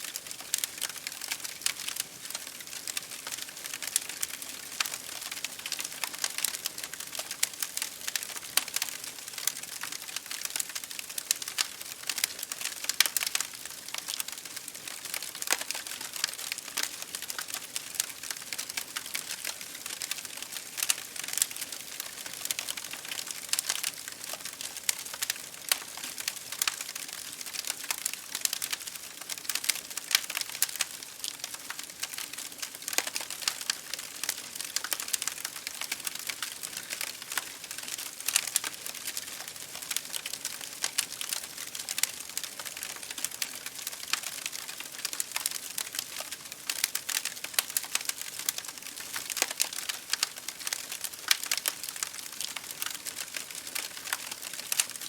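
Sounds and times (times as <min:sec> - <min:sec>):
wood fire crackling: 0:00.1 - 0:55.0
rain hitting a window: 0:00.2 - 0:55.0.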